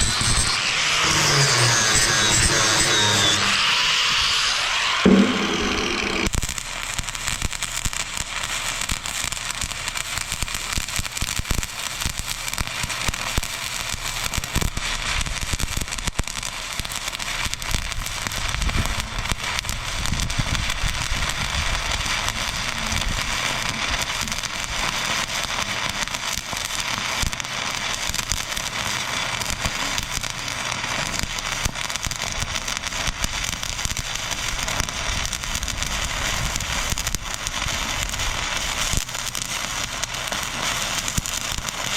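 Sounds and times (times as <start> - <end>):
welding arc crackling and spitting: 0.0 - 41.9.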